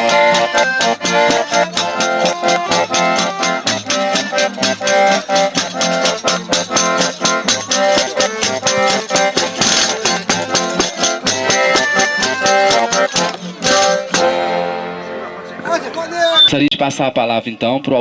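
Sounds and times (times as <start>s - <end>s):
tambourine beat: 0.0s - 14.6s
button accordion playing: 0.0s - 16.4s.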